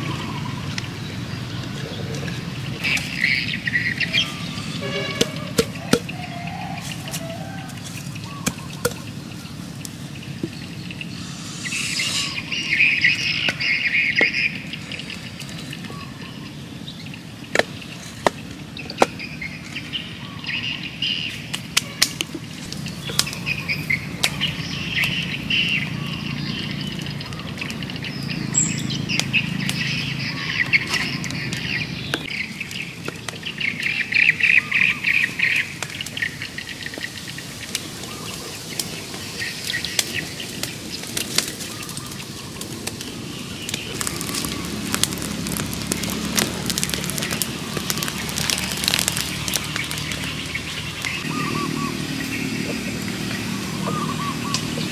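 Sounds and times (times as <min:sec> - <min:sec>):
wood fire crackling: 0:00.0 - 0:20.2, 0:21.2 - 0:34.4, 0:35.1 - 0:51.4
birds chirping: 0:00.0 - 0:54.9.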